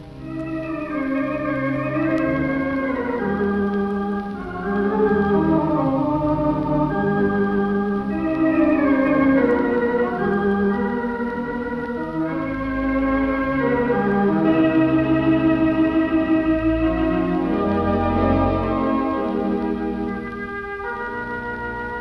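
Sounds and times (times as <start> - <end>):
theatre organ chords on old record: 0.0 - 22.0.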